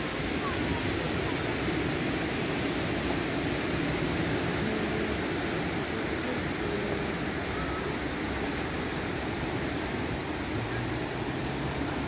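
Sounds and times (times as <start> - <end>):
sea surf washing onto shore: 0.0 - 12.0.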